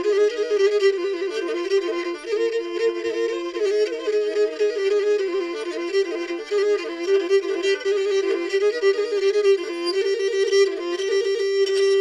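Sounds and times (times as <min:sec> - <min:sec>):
lyra playing fast melody: 0:00.0 - 0:12.0.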